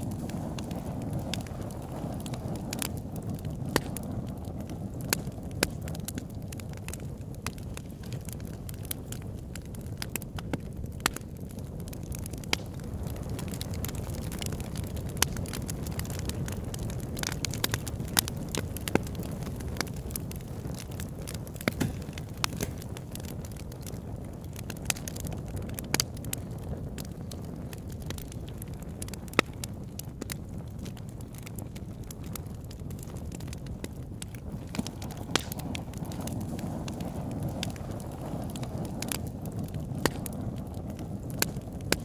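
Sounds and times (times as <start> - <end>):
campfire rumbling: 0.0 - 42.0
fire crackling and popping: 0.0 - 42.0.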